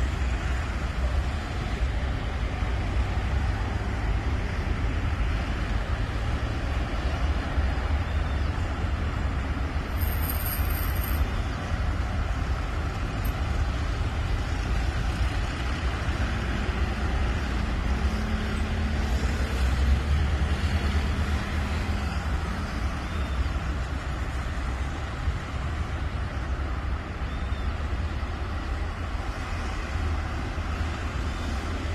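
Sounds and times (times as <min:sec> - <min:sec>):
engine hum: 0:00.0 - 0:31.9
road traffic rumble: 0:00.0 - 0:31.9.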